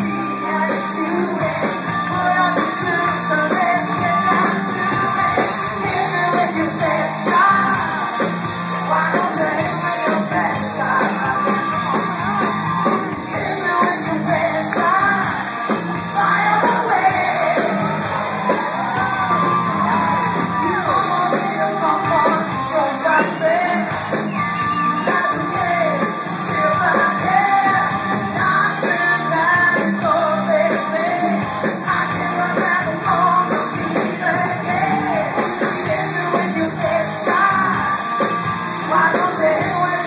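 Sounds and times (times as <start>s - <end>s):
live rock band playing: 0.0s - 40.0s
woman singing: 0.0s - 40.0s.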